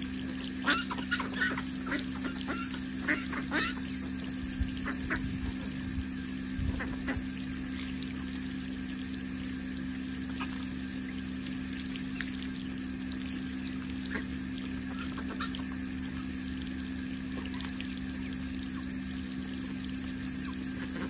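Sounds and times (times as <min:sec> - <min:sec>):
hose water splashing on gravel: 0:00.0 - 0:21.0
steady low hum: 0:00.0 - 0:21.0
ducks dabbling in water: 0:00.2 - 0:21.0.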